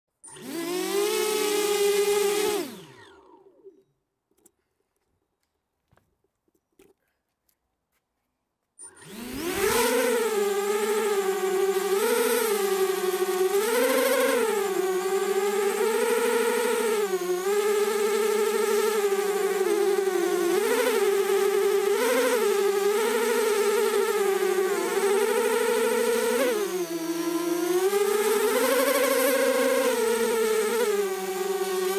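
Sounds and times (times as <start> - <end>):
drone propellers whining: 0.2 - 3.9, 8.8 - 31.9.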